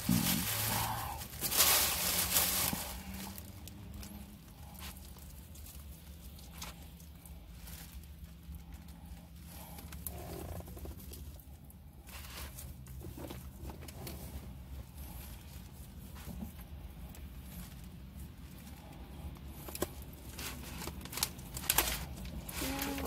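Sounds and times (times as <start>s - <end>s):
clicks and rustles: 0.0s - 23.0s
low hum in car cabin: 0.0s - 23.0s.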